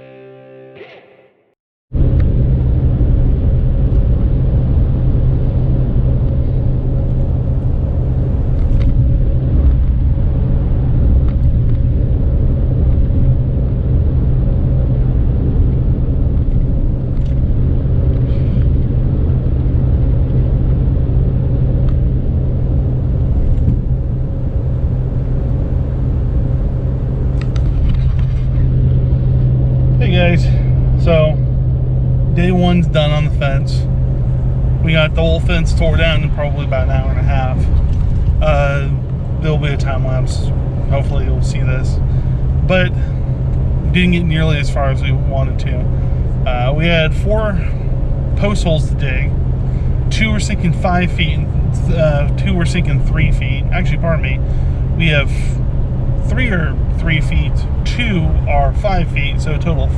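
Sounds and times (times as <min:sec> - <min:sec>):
constant low hum: 0:01.9 - 0:59.9
truck road and engine rumble: 0:01.9 - 0:59.9.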